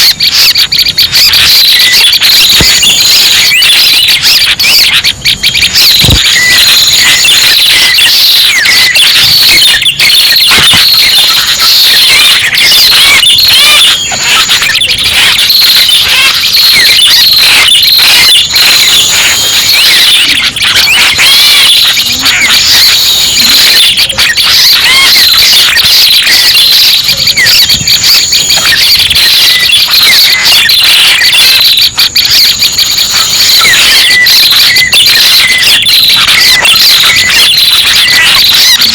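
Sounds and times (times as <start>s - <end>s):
many birds chirping: 0.0s - 38.9s.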